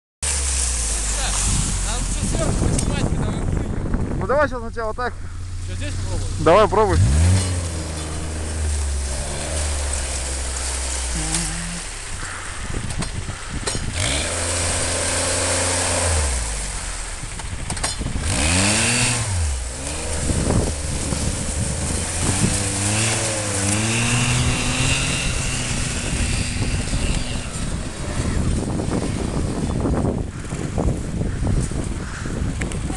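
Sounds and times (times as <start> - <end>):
snowmobile engine revving: 0.2 - 30.6.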